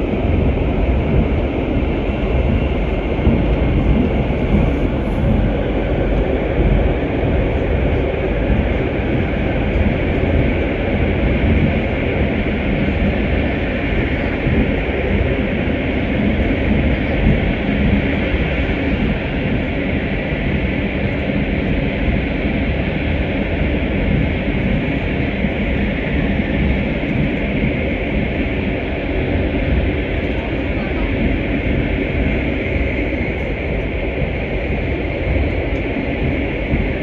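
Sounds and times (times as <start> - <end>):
train rumbling at speed: 0.0 - 37.0.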